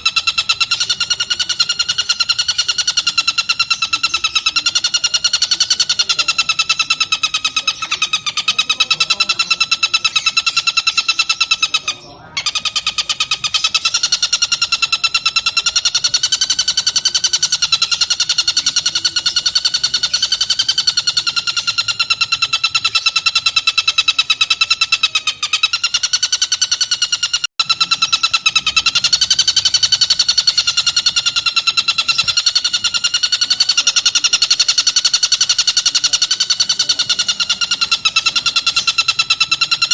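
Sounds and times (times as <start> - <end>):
kingfisher rattling trill: 0.0 - 39.9.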